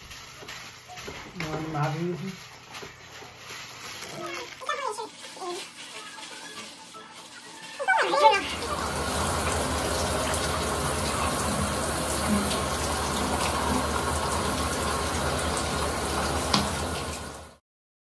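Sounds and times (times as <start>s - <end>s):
shower water spraying: 0.0s - 17.6s.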